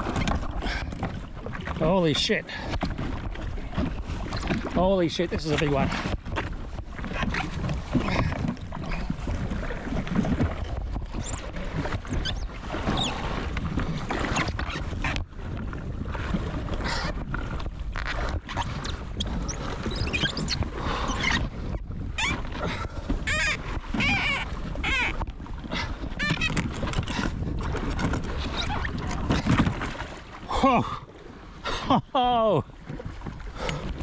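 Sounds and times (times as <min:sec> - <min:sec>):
knocks and splashes: 0:00.0 - 0:34.0
water washing against hull: 0:00.0 - 0:34.0
wind buffeting microphone: 0:00.0 - 0:34.0.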